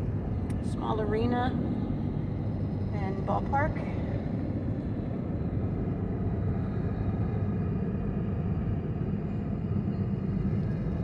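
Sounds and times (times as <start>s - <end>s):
vehicle road and engine noise: 0.0s - 11.0s.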